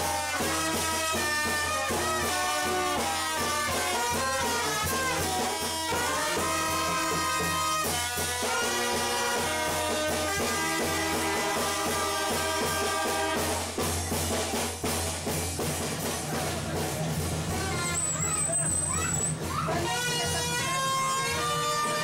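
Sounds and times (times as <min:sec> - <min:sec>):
brass band playing: 0:00.0 - 0:22.0
drums keeping time: 0:00.0 - 0:22.0.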